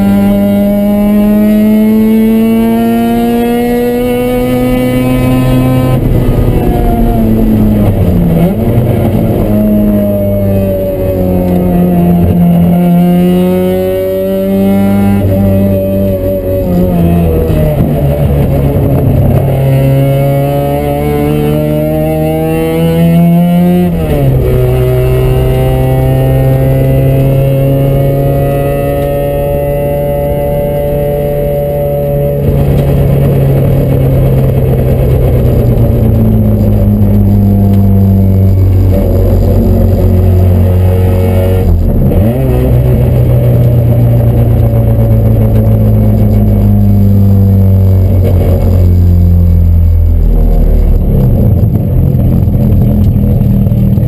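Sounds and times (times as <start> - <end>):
rotary engine revving: 0.0 - 54.0.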